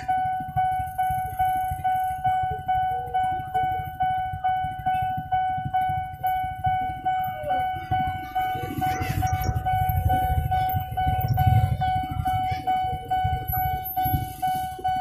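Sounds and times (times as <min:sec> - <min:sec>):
car and motorcycle engines rumbling: 0:00.0 - 0:15.0
level crossing bell dinging: 0:00.0 - 0:15.0.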